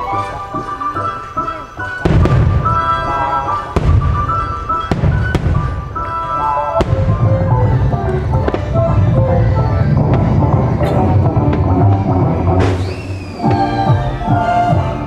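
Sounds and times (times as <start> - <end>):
loud show music: 0.0 - 15.0
fireworks bangs and booms: 0.6 - 13.4.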